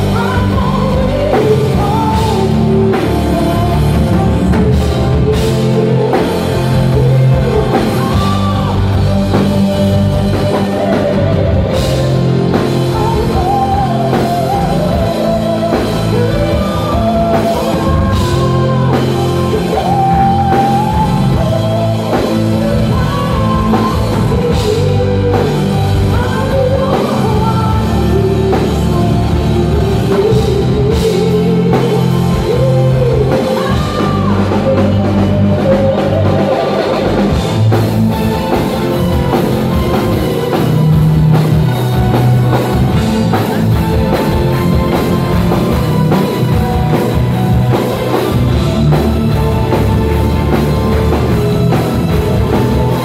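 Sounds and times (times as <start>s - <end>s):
metal band playing live: 0.0s - 53.0s
woman singing lead: 0.0s - 53.0s.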